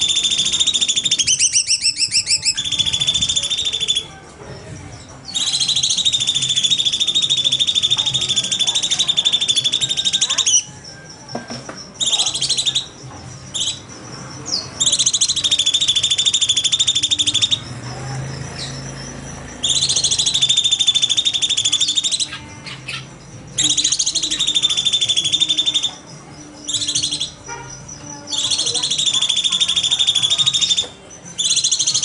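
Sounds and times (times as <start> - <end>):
bird singing chattering trills: 0.0 - 32.0.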